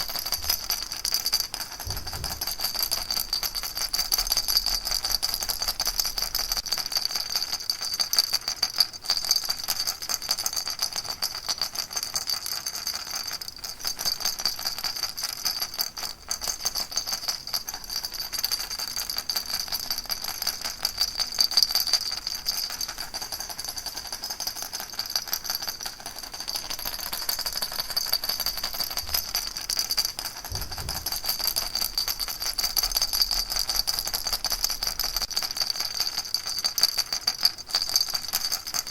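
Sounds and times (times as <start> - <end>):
baby rattle shaken: 0.0 - 38.9.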